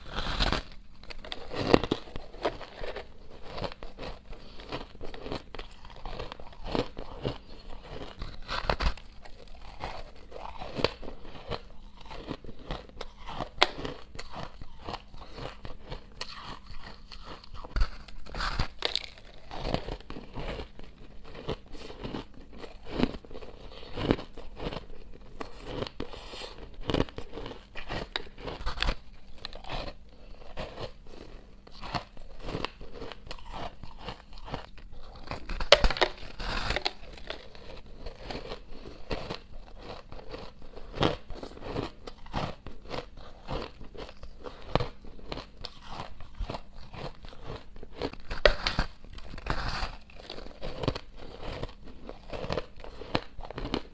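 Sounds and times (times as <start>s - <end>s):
crushed ice being chewed: 0.0s - 53.9s.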